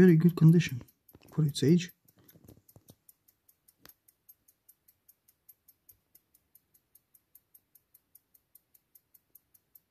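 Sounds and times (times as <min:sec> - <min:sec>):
pocket watch ticking: 0:00.0 - 0:09.9.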